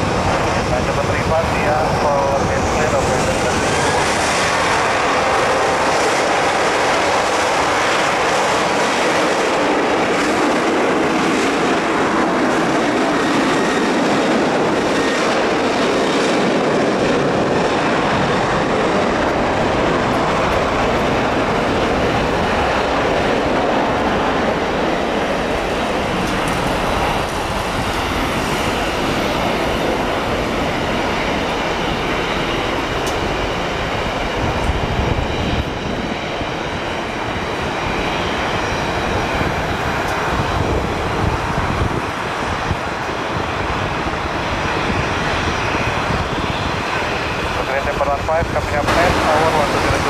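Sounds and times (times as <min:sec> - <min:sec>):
jet engine rumble: 0:00.0 - 0:50.0.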